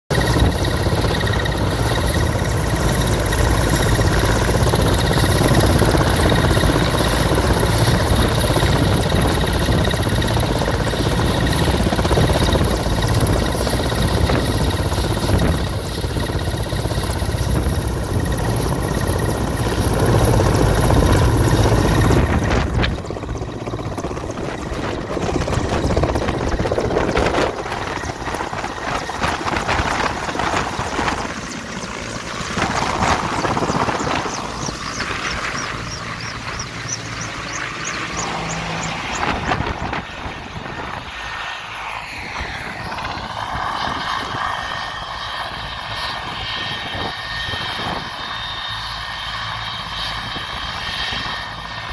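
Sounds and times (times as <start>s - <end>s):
helicopter rotor noise: 0.1s - 51.9s
high turbine whine: 0.1s - 51.9s.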